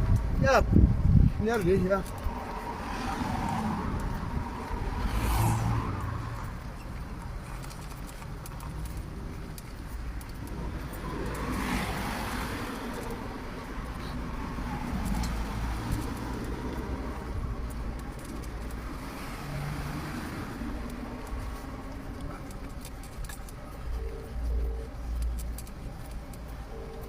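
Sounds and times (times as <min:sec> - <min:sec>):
steady low traffic rumble: 0:00.0 - 0:27.0
vehicle passing: 0:01.6 - 0:27.0.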